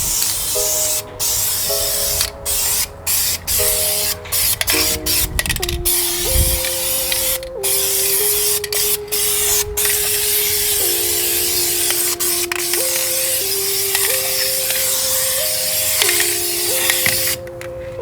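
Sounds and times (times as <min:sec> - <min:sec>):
spray paint can hissing: 0:00.0 - 0:17.4.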